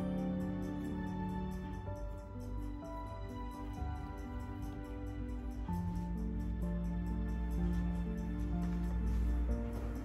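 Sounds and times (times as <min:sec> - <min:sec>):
held chord music: 0:00.0 - 0:10.0.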